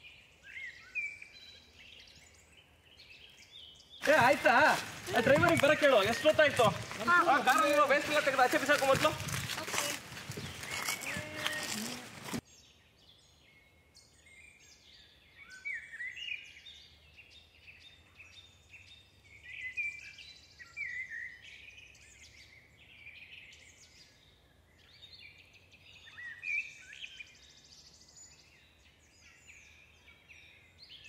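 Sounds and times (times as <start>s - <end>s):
birds chirping and whistling: 0.0s - 24.2s, 24.8s - 31.0s.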